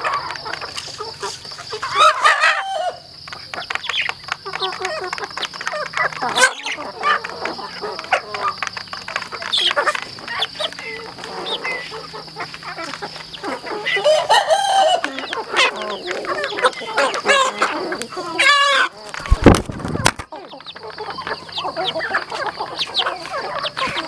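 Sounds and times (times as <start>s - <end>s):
chickens clucking and calling: 0.0s - 24.0s.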